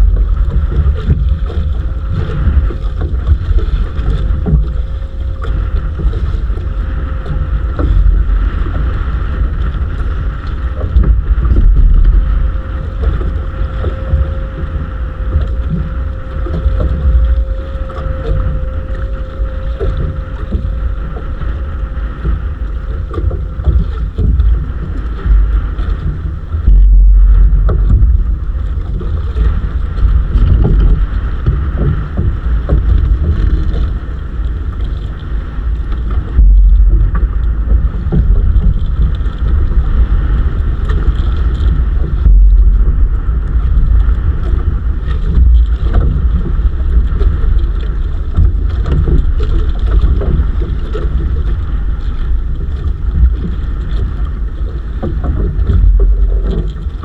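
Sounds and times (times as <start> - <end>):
water noise: 0.0 - 57.0
wind buffeting microphone: 0.0 - 57.0.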